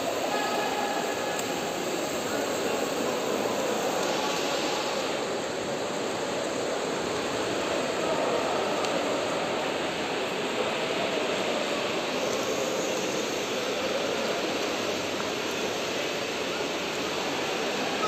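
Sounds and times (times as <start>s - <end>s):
echoing pool hall roar: 0.0s - 18.0s.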